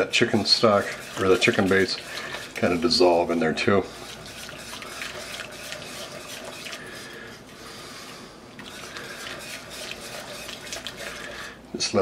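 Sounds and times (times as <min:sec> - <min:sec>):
wire whisk scraping a pot: 0:00.0 - 0:07.6, 0:08.6 - 0:11.6.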